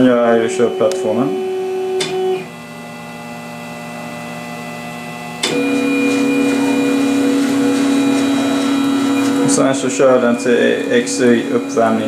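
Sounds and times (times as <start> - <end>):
stepper motor whine: 0.0 - 12.0.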